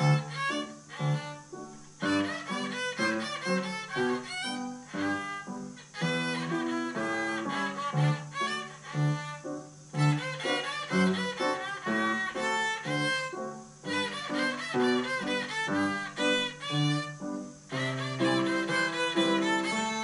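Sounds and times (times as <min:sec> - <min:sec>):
bowed violin run: 0:00.0 - 0:20.0.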